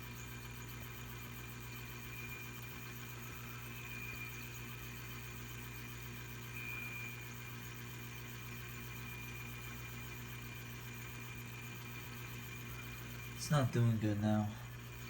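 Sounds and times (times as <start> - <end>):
high-pitched fan whine: 0.0 - 15.0
refrigerator humming: 0.0 - 15.0.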